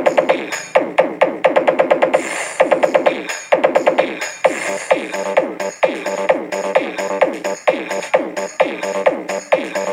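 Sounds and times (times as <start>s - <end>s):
electronic dance music: 0.0s - 9.9s.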